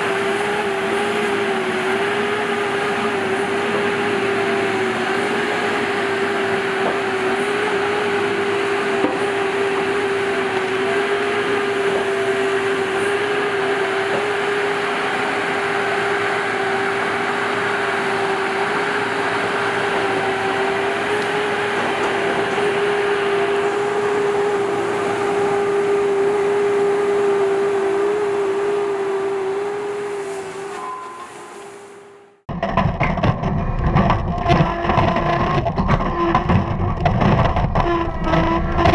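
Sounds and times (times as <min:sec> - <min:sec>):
diesel engine running: 0:00.0 - 0:38.9
hydraulics whining: 0:00.0 - 0:38.9.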